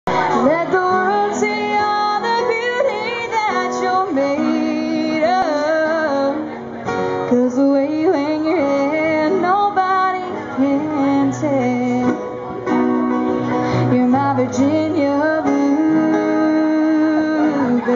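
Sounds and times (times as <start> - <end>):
acoustic guitars: 0.0 - 17.9
woman singing: 0.1 - 12.3, 13.7 - 17.9.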